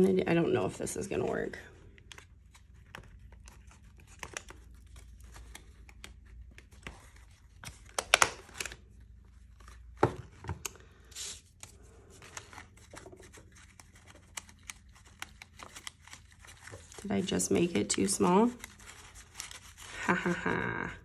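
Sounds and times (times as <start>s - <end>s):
paper rustling and crinkling: 1.9s - 20.8s.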